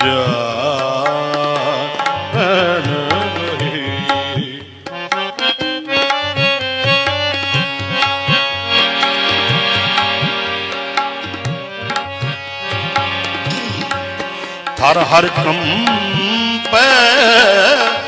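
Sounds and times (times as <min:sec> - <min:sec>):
harmonium melody: 0:00.0 - 0:18.0
tabla rhythm: 0:00.0 - 0:18.0.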